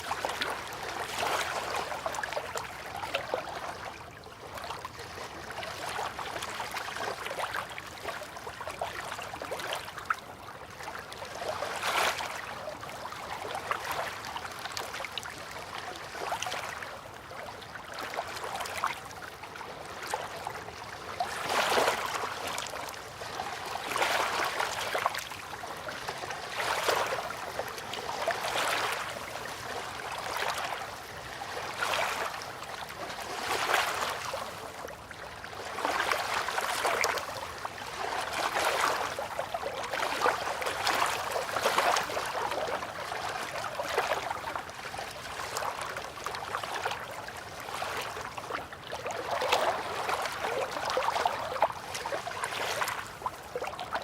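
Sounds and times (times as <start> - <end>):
river water lapping and splashing: 0.0 - 54.0
small waves surging: 0.0 - 54.0.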